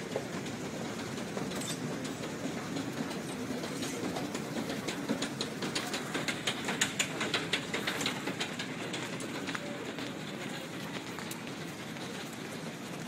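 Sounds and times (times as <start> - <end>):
station rumble: 0.0 - 13.0.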